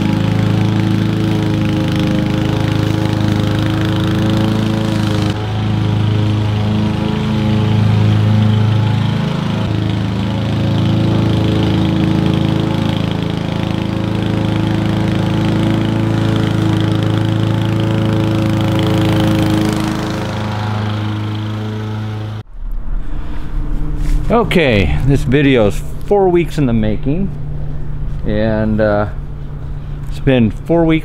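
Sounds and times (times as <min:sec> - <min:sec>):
lawn mower engine running: 0:00.0 - 0:31.0.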